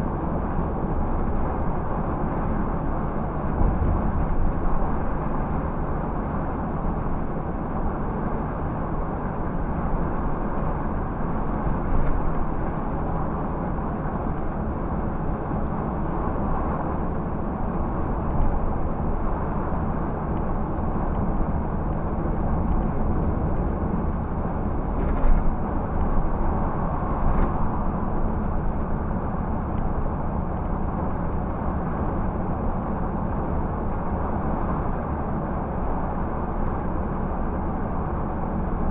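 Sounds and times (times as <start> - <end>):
coach engine and road noise drone: 0.0 - 38.9.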